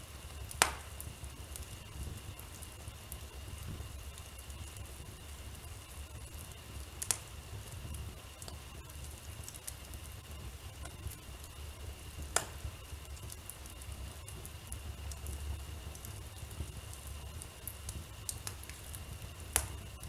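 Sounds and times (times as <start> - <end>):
wood fire crackling: 0.0 - 20.0
sharp pops of fire: 0.1 - 20.0.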